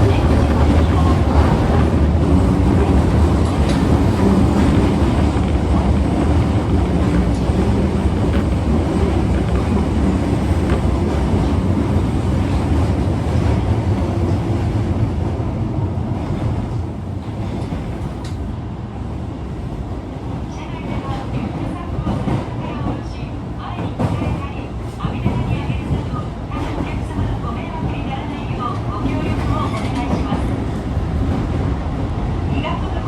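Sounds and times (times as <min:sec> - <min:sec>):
subway car wheels and motors: 0:00.0 - 0:33.0.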